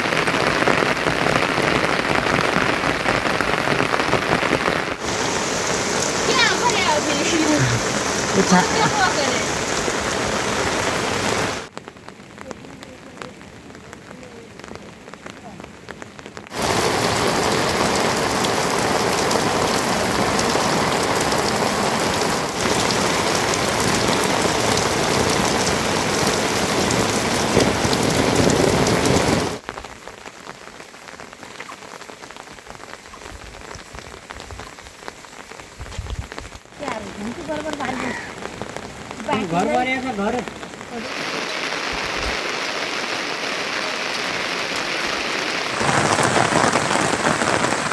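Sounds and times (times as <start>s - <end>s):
rain falling: 0.0s - 47.9s.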